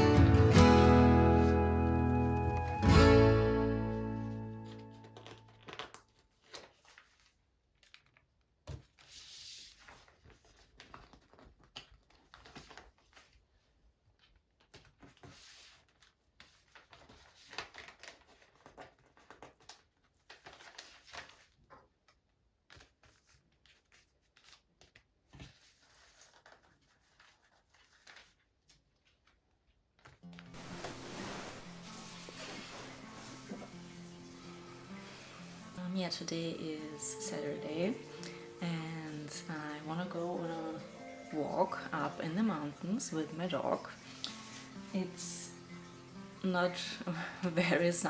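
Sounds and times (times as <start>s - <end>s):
paper rustling: 4.4s - 48.0s.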